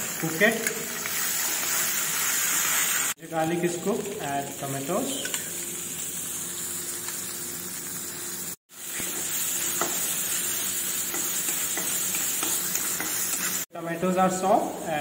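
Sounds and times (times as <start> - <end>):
tomatoes sizzling in hot oil: 0.0 - 13.7.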